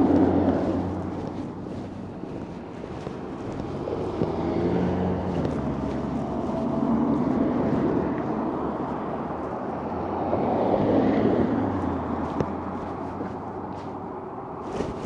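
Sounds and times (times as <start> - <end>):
passing vehicles engine hum: 0.0 - 15.0
wind buffeting microphone: 0.0 - 15.0.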